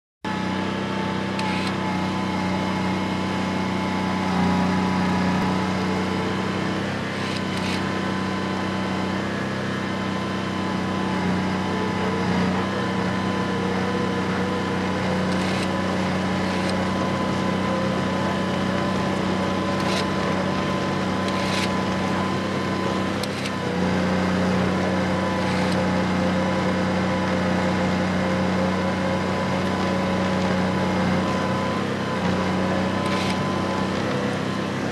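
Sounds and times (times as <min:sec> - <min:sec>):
engine running under load: 0:00.3 - 0:34.9
steady whine: 0:00.3 - 0:34.9.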